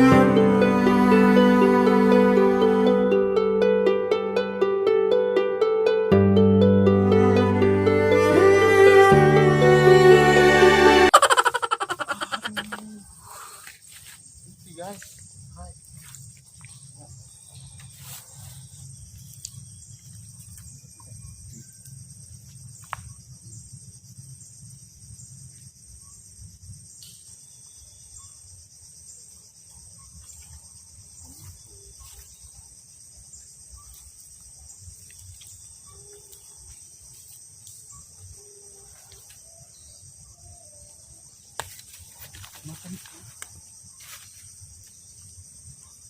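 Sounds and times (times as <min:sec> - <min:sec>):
insects buzzing: 0:00.0 - 0:46.0.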